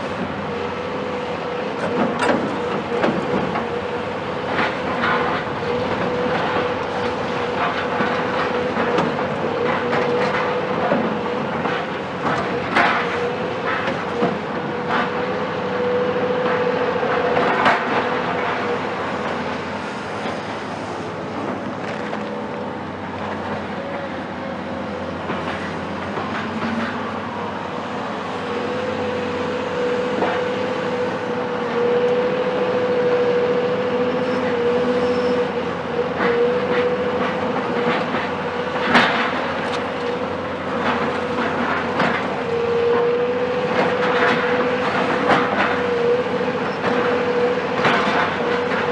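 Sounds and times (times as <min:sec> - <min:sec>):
diesel engine whining: 0:00.0 - 0:48.9.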